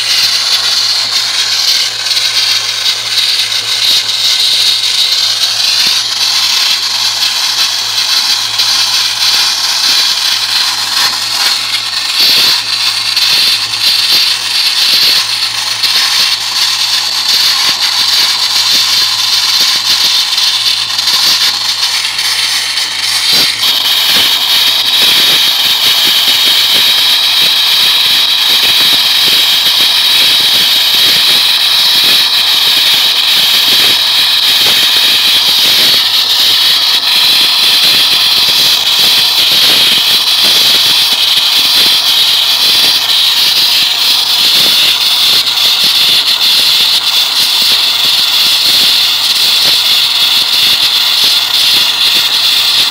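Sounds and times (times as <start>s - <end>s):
air compressor engine hum: 0.0s - 52.9s
blasting nozzle hissing: 0.0s - 52.9s
gritty spatter: 0.0s - 52.9s.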